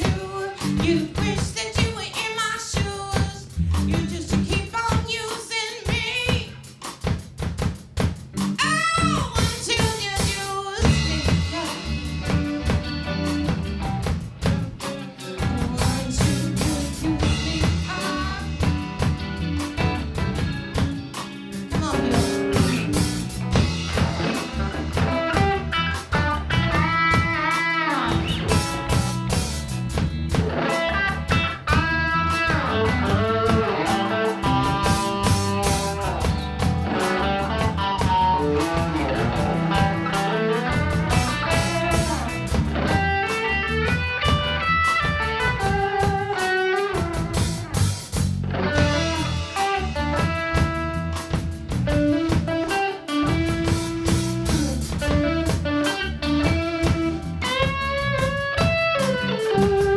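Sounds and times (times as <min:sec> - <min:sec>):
bass: 0:00.0 - 0:59.9
blues lead guitar: 0:00.0 - 0:59.9
drum kit: 0:00.0 - 0:59.9.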